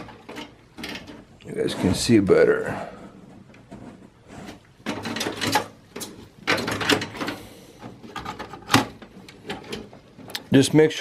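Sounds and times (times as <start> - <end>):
metal case clattering and scraping: 0.0 - 2.2, 2.9 - 10.8.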